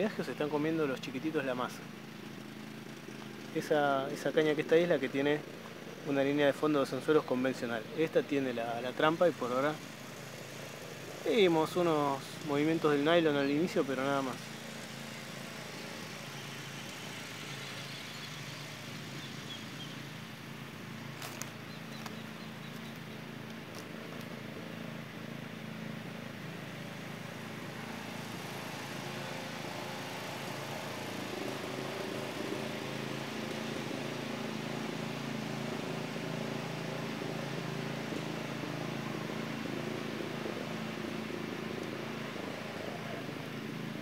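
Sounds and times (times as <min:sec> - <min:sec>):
engine humming: 0:00.0 - 0:44.0.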